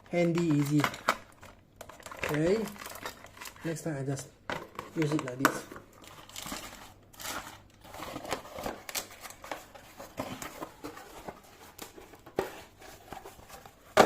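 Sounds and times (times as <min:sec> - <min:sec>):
packaging rustling: 0:00.1 - 0:14.0.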